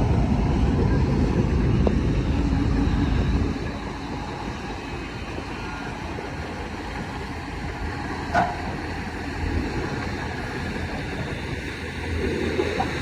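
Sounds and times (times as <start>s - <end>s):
diesel machinery running: 0.0s - 13.0s.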